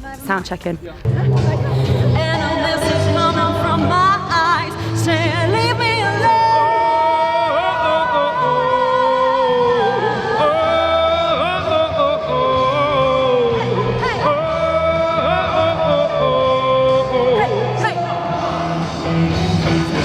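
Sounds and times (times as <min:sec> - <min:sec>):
backing track with bass line: 0:00.6 - 0:20.0
woman singing with vibrato: 0:01.4 - 0:18.8.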